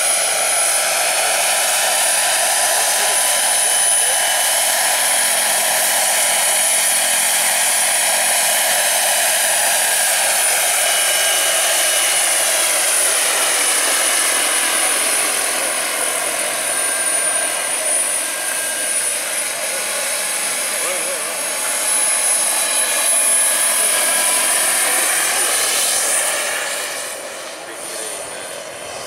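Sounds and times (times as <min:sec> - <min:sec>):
model helicopter turbine whistle: 0:00.0 - 0:29.0.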